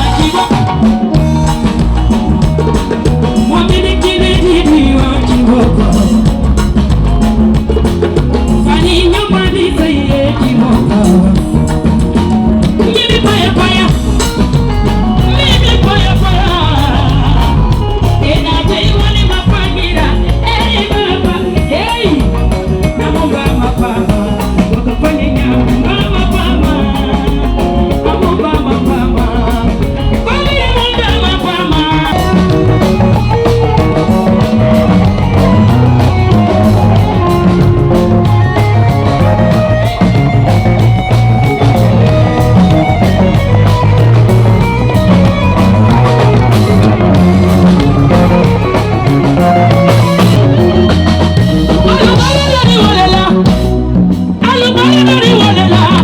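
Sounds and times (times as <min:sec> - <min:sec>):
band playing: 0:00.0 - 0:56.0
person singing: 0:00.0 - 0:56.0.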